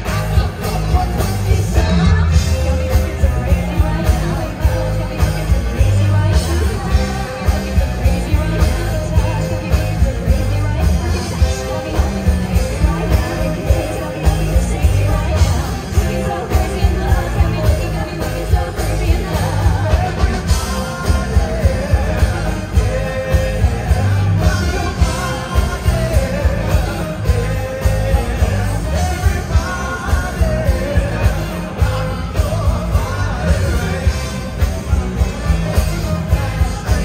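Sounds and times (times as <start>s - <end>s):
rock and roll song with singer: 0.0s - 37.0s.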